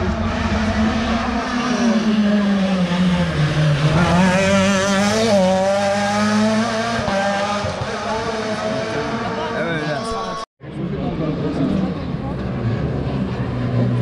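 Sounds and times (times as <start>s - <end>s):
rally car engine passing: 0.0s - 14.0s.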